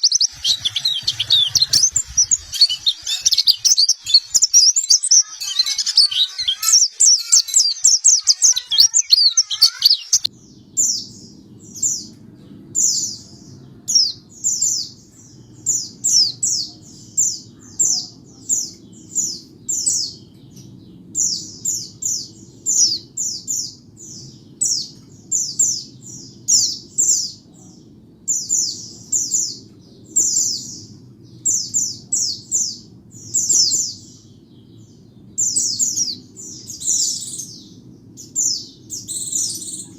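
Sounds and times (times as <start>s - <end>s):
steady low hum: 0.0s - 7.7s, 10.1s - 39.9s
bird chirping: 0.0s - 39.9s.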